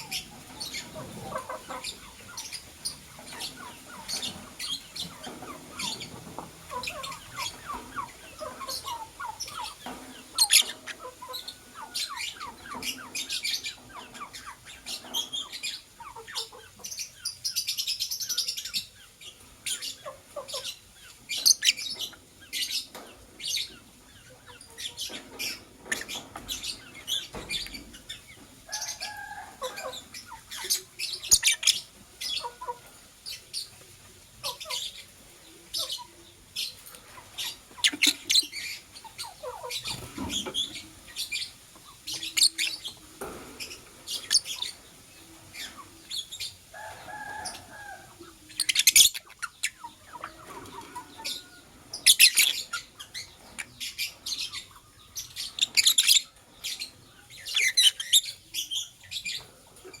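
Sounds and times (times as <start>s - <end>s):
lovebirds chirping: 0.0s - 60.0s.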